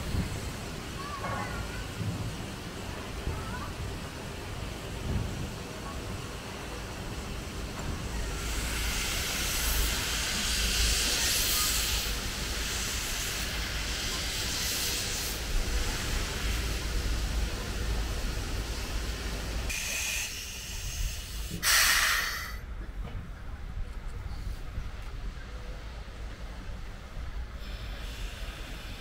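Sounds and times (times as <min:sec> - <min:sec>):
steam locomotive hissing steam: 0:00.0 - 0:23.0, 0:24.2 - 0:29.0.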